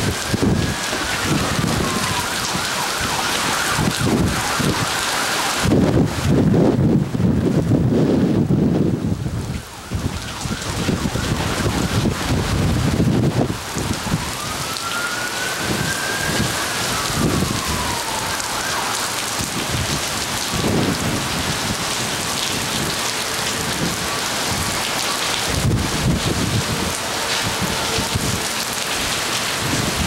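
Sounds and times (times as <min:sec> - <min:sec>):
heavy rain on pavement: 0:00.0 - 0:30.0
wind buffeting microphone: 0:00.0 - 0:30.0.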